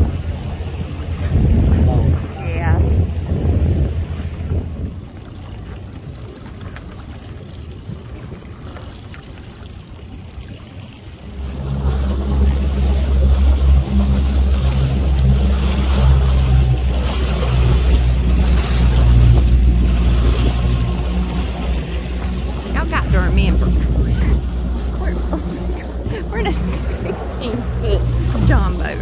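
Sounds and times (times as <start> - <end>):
boat engines droning: 0.0 - 29.0
water noise: 0.0 - 29.0
wind: 0.0 - 29.0.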